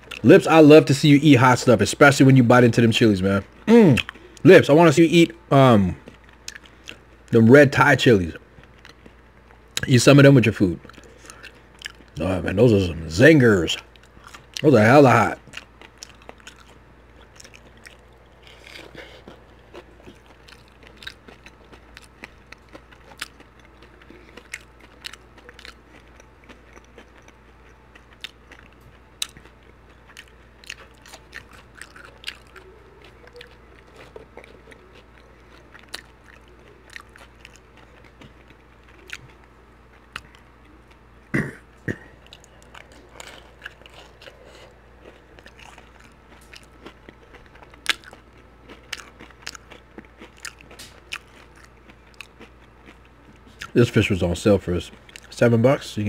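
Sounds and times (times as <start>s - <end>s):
chewing crunchy food: 0.0s - 55.9s.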